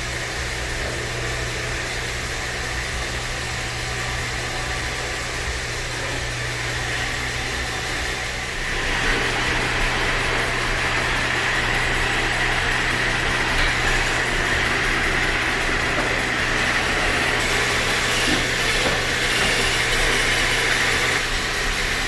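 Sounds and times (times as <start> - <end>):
robot vacuum running: 0.0 - 22.0.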